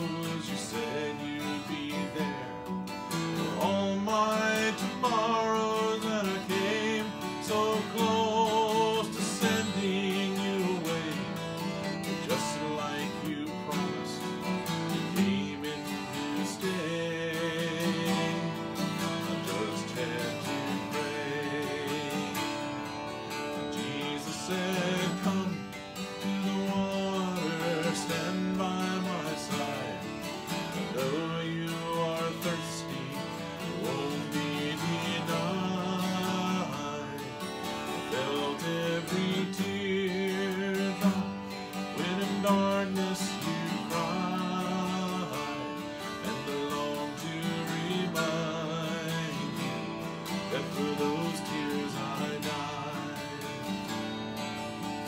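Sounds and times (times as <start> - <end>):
man singing: 0.0 - 55.0
twelve-string acoustic guitar strumming: 0.0 - 55.0.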